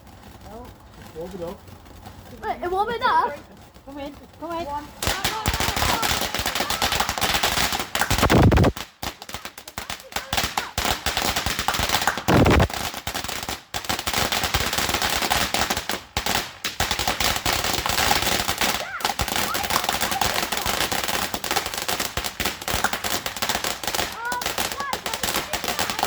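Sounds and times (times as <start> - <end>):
deep firework bursts: 0.0 - 26.0
fireworks crackling bangs: 0.0 - 26.0.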